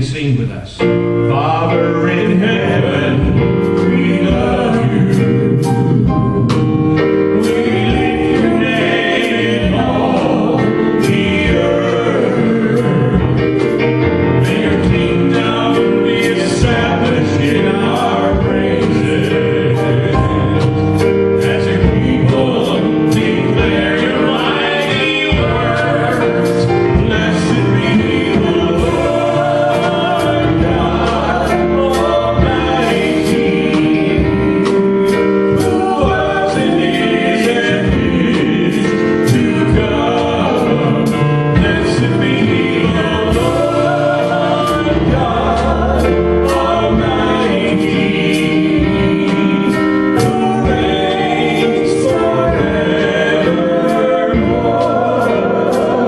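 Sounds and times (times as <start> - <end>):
group singing gospel song: 0.1 - 56.0
band with steady beat: 2.4 - 56.0.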